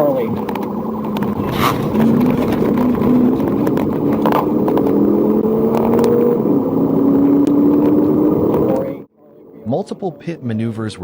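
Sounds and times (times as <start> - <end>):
car engine accelerating: 0.0 - 9.1
tyre and road noise: 0.0 - 10.3.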